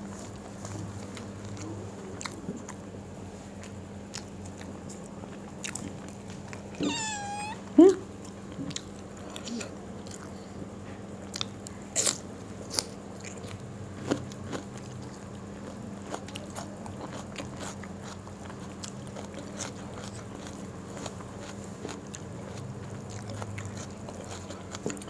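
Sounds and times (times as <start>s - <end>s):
chewing crispy fried food: 0.0s - 25.0s
steady low hum: 0.0s - 25.0s.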